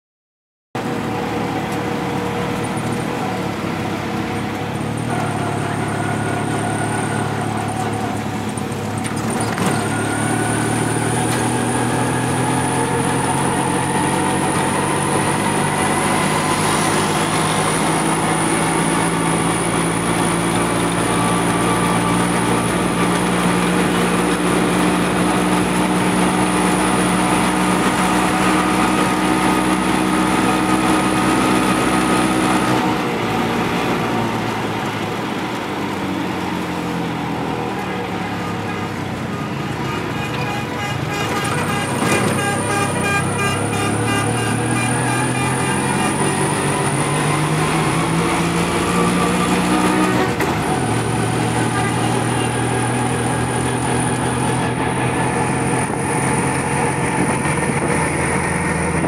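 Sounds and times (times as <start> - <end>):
road traffic noise: 0.8 - 59.0
vehicle engine running: 0.8 - 59.0.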